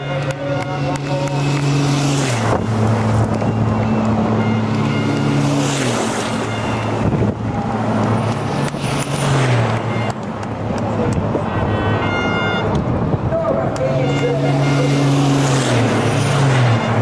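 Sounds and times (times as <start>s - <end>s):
racing truck engines: 0.0s - 17.0s
trucks passing by: 0.0s - 17.0s.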